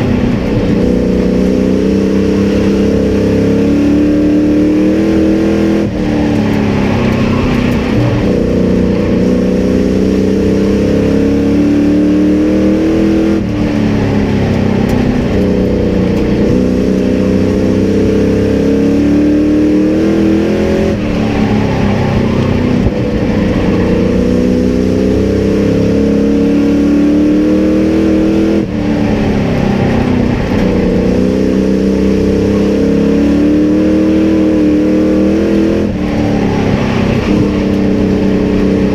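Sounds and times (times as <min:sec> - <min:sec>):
racing truck engine revving: 0:00.0 - 0:38.9.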